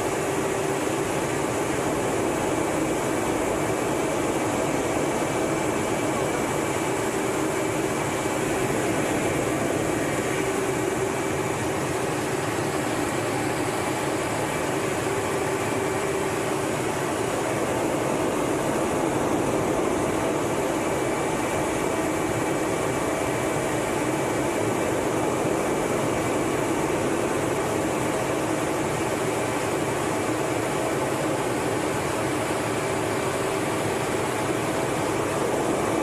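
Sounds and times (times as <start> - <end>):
jet engine and airflow hum: 0.0 - 36.0.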